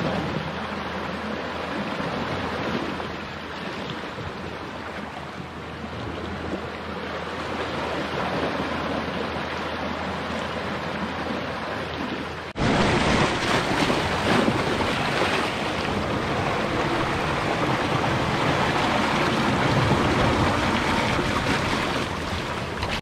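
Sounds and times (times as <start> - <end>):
seawater rushing down rock gully: 0.0 - 23.0
wash of sea and wind: 0.0 - 23.0.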